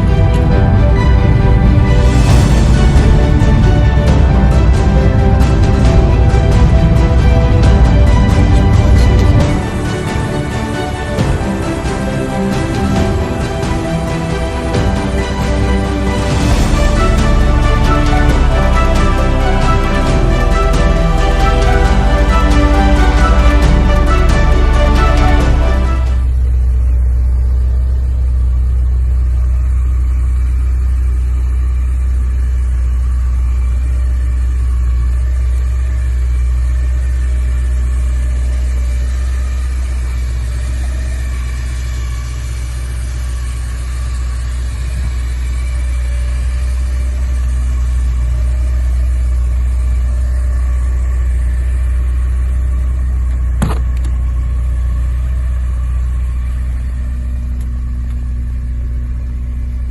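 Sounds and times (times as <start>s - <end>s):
car engine idling rumble: 0.0s - 59.9s.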